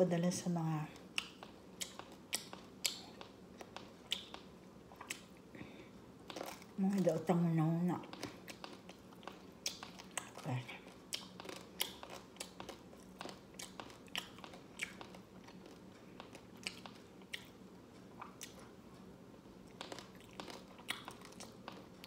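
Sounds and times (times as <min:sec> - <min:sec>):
chewing crunchy rice crust: 0:01.0 - 0:05.5, 0:06.2 - 0:07.1, 0:08.0 - 0:18.8, 0:19.6 - 0:22.0.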